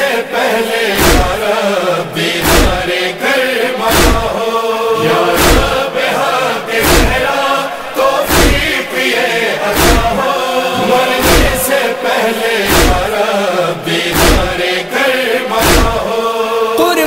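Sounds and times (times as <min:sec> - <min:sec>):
men chanting in chorus: 0:00.0 - 0:17.0.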